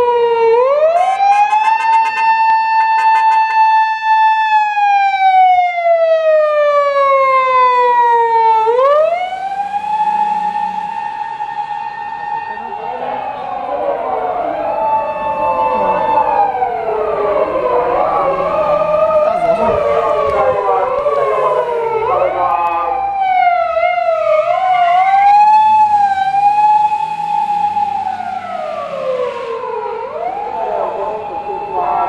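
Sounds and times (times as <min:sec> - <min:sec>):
emergency vehicle sirens wailing: 0:00.0 - 0:32.0.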